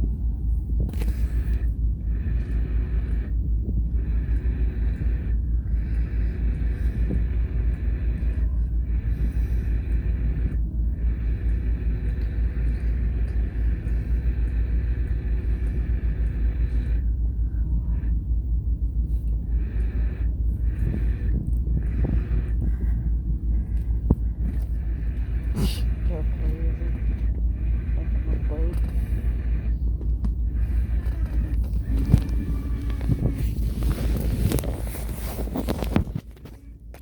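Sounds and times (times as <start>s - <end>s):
faint steady hum: 0.0s - 37.0s
wind buffeting microphone: 0.0s - 37.0s.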